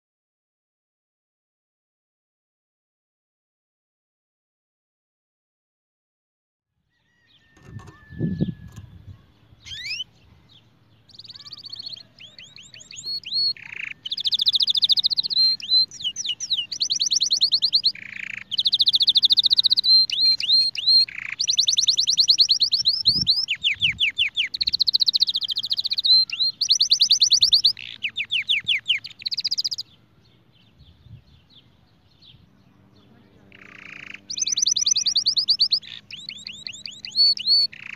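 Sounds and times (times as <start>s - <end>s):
canary singing trills: 6.9s - 37.9s.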